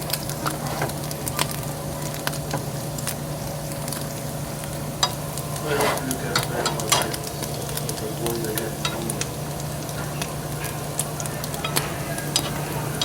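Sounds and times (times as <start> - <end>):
crackles and pops: 0.0 - 13.0
sausage sizzling in a frying pan: 0.0 - 13.0.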